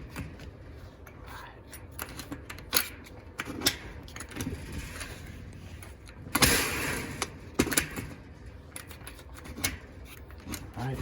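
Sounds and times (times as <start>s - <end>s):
noisy mechanical sound: 0.0s - 11.0s.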